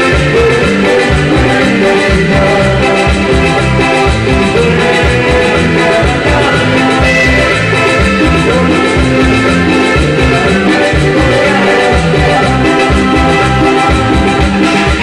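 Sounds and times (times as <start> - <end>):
guitar: 0.0 - 15.0
keyboard: 0.0 - 15.0
live latin dance band: 0.0 - 15.0
loud bass beat: 0.0 - 15.0.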